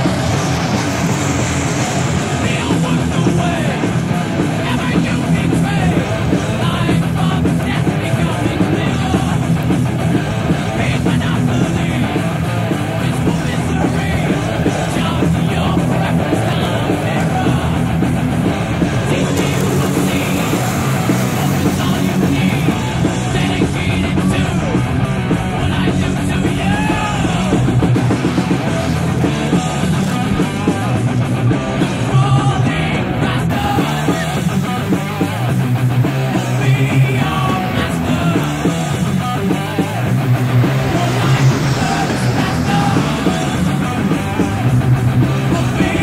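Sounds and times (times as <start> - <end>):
loud rock music with singing: 0.0 - 46.0.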